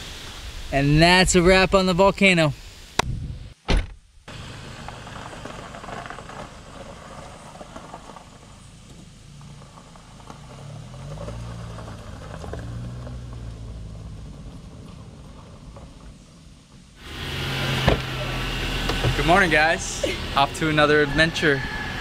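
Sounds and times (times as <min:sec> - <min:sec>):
car engine idling and pulling away: 0:04.3 - 0:22.0.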